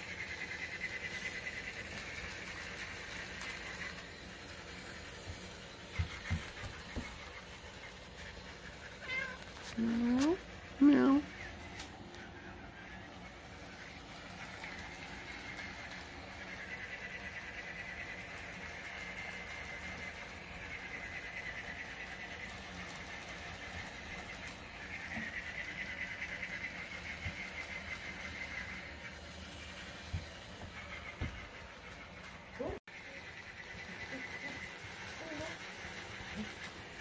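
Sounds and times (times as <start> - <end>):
toy motor and gears whirring: 0.0 - 37.0.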